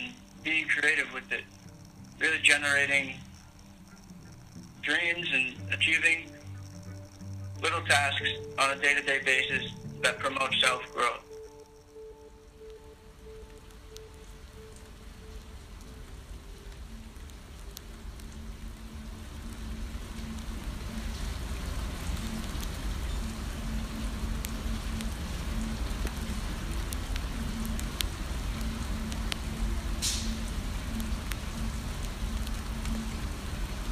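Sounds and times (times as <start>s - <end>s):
raindrops ticking sharply: 0.0s - 33.9s
steady rain: 0.0s - 33.9s.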